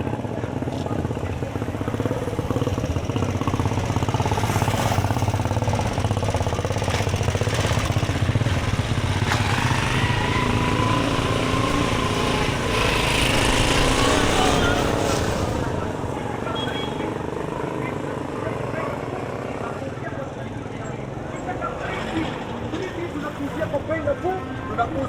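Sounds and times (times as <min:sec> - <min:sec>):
street noise: 0:00.0 - 0:25.0
vehicle engine rumbling: 0:00.0 - 0:25.0.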